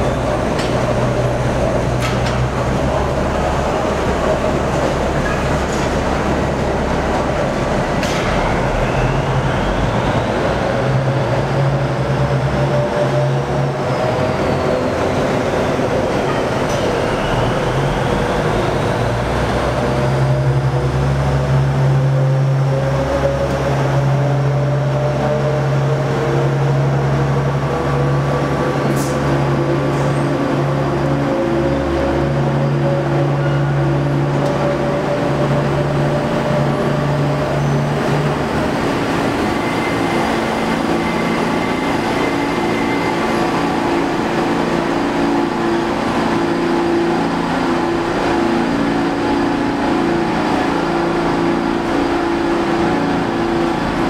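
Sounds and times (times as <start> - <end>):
subway cars rumbling: 0.0 - 54.0.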